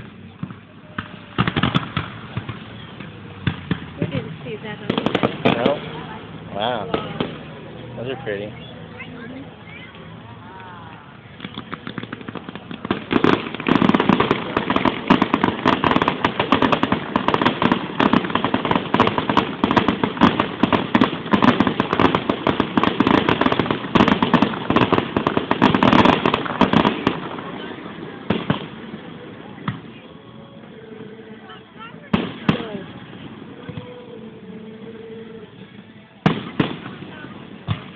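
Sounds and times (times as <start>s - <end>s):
fireworks bangs and crackling: 0.0s - 10.2s, 11.2s - 37.9s.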